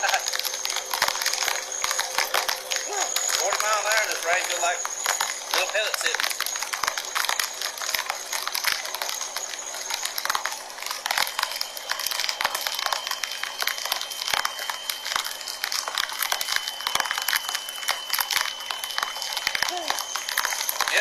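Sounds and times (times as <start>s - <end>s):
faint high whine: 0.0s - 21.0s
rain hitting microphone: 0.0s - 21.0s.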